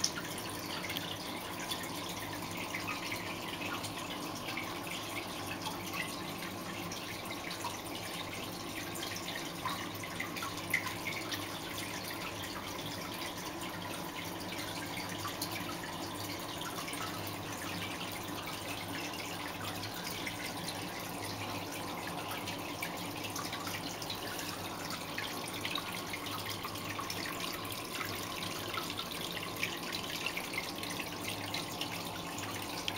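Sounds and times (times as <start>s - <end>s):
faint steady hum: 0.0s - 32.9s
filter water trickling and splashing: 0.0s - 32.9s
water dripping: 0.0s - 32.9s.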